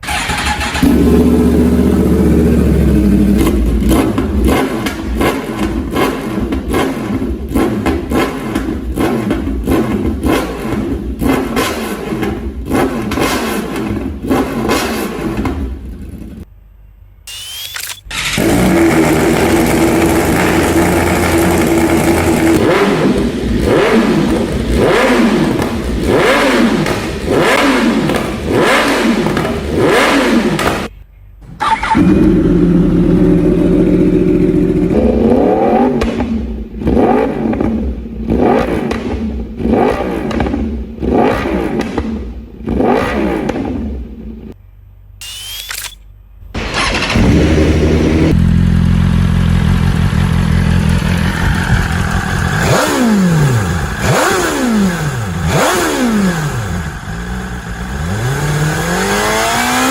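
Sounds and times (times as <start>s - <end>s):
motorcycle engine idling and revving: 0.0s - 16.5s, 18.2s - 31.0s, 31.6s - 44.6s, 46.6s - 59.9s.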